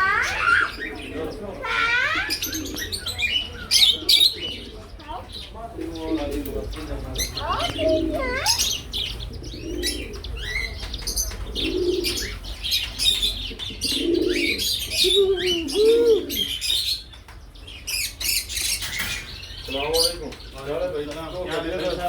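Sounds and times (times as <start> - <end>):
low cooing calls: 0.0 - 18.9
birds chirping: 0.0 - 22.0.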